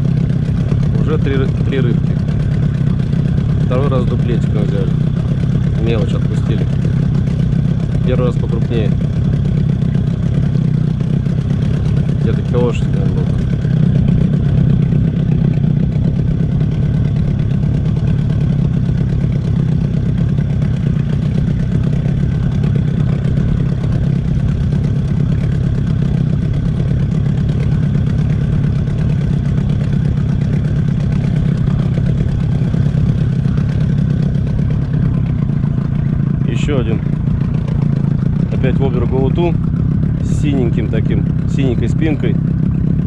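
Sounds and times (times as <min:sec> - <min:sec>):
outboard motor droning: 0:00.0 - 0:43.0.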